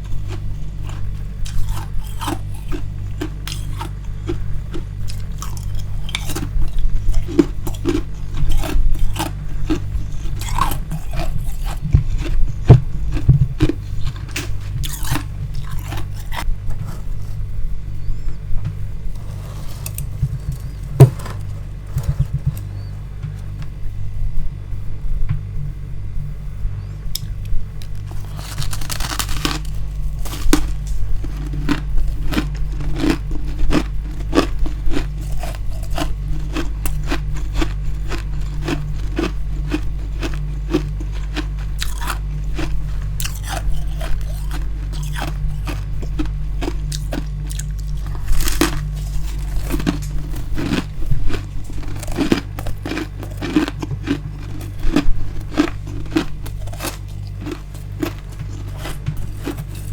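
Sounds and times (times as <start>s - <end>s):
crisp chewing crunches: 0.0s - 18.4s, 19.1s - 23.8s, 27.1s - 59.9s
constant low hum: 0.0s - 59.9s.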